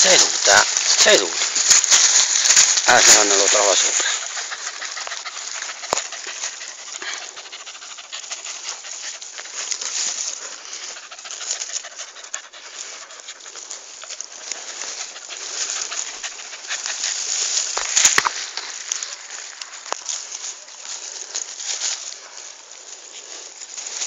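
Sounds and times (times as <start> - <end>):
digging in soil and dry leaves: 0.0 - 24.0.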